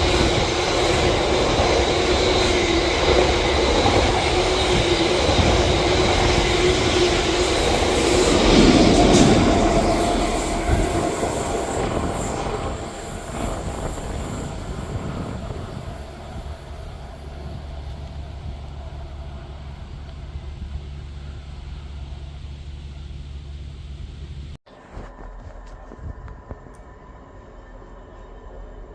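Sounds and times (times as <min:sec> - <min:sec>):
train passing at speed: 0:00.0 - 0:28.9.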